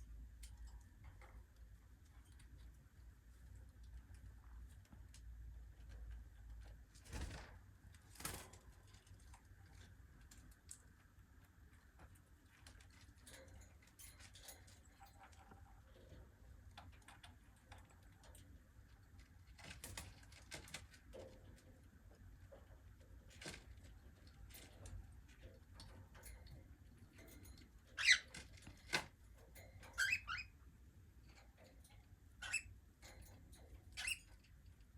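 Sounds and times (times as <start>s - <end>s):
cockatiels clicking and tapping: 0.3s - 30.6s, 31.2s - 34.9s.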